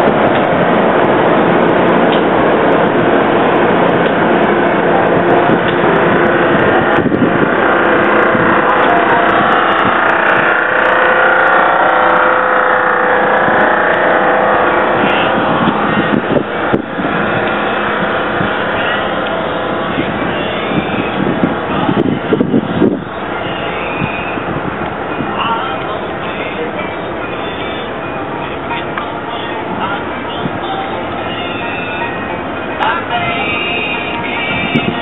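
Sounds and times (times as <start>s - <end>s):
steel wheels rumbling on rails: 0.0s - 35.0s.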